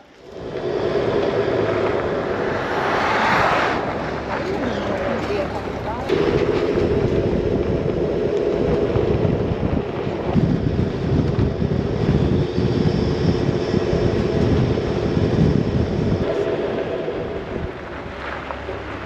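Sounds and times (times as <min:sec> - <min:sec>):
tyres rumbling on gravel: 0:00.0 - 0:12.7, 0:13.6 - 0:19.0
vehicle engine drone: 0:00.0 - 0:19.0
wind buffeting microphone: 0:00.0 - 0:19.0.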